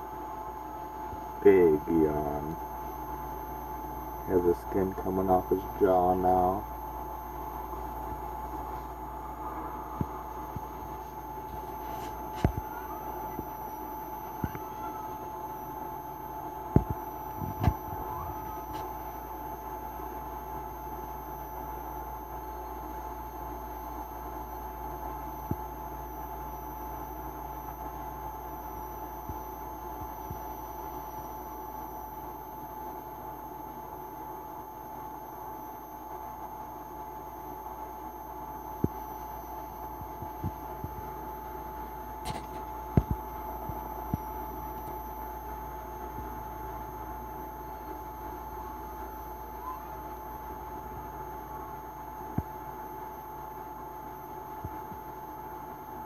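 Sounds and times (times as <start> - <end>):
background hum: 0.0 - 56.0
faint steady whine: 0.0 - 56.0.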